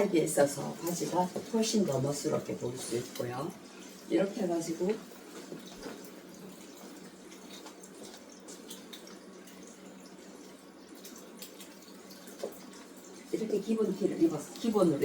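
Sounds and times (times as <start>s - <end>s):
soft ticks and rustles: 0.8s - 15.0s.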